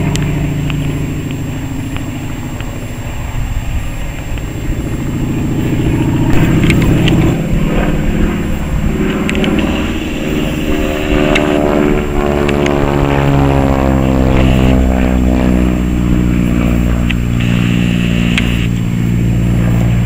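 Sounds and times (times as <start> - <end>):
propeller plane droning: 0.0 - 20.0.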